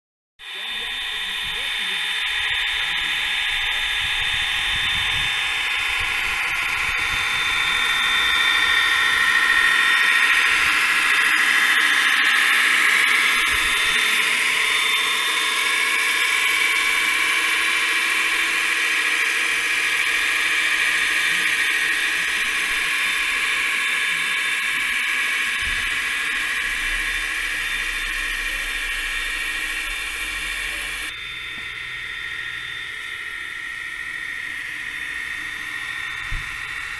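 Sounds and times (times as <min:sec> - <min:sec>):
machine high-pitched whine: 0:00.4 - 0:36.9.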